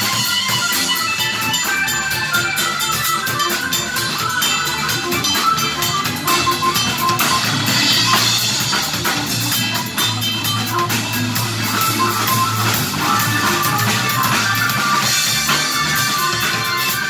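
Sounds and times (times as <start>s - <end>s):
drum kit beat: 0.0s - 17.0s
electric bass: 0.0s - 17.0s
electric guitar: 0.0s - 17.0s
hammond organ: 0.0s - 17.0s.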